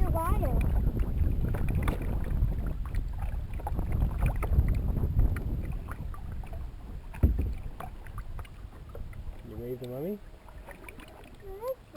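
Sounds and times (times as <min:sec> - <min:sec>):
wind rumble on microphone: 0:00.0 - 0:09.9
water splashing and dripping: 0:00.0 - 0:11.9.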